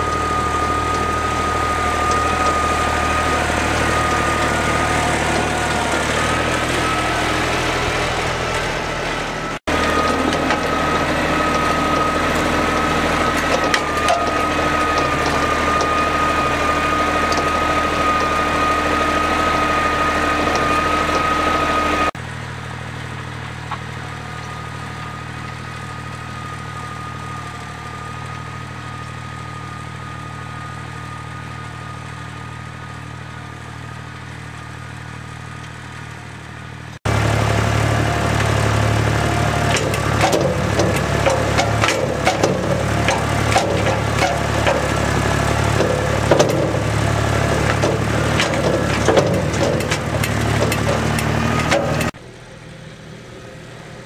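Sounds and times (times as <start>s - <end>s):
diesel tractor running: 0.0s - 54.0s.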